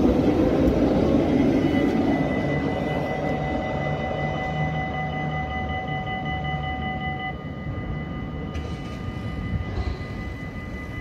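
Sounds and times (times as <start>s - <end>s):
low rumble of tram: 0.0s - 11.0s
tram traction drive whine: 0.0s - 11.0s.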